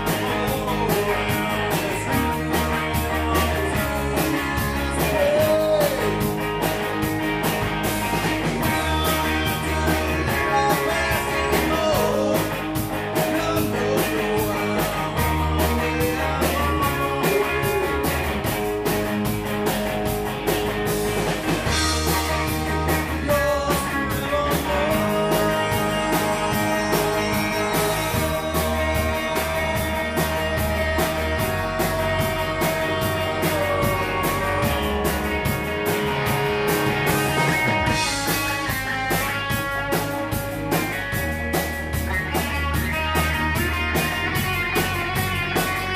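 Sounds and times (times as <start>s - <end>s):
bass guitar: 0.0s - 45.9s
electric guitar lead: 0.0s - 45.9s
steady drum beat: 0.0s - 45.9s.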